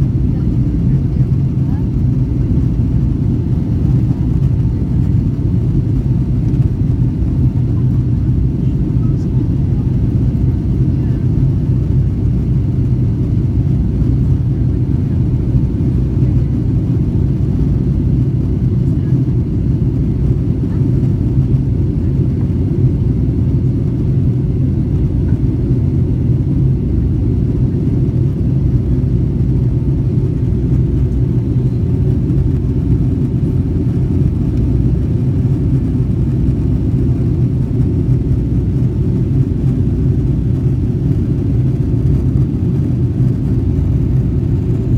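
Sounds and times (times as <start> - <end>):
jet engine rumble in cabin: 0.0 - 44.9.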